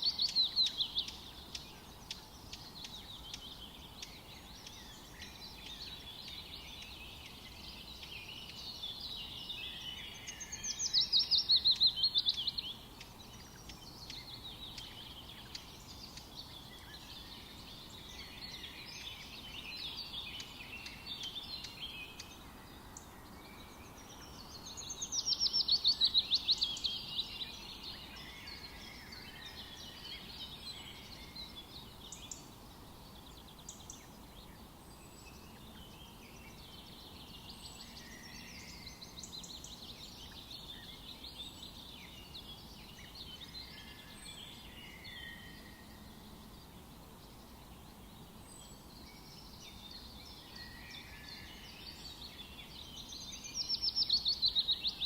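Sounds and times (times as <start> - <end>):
faint steady hiss: 0.0 - 55.0
forest birds singing: 0.0 - 55.0.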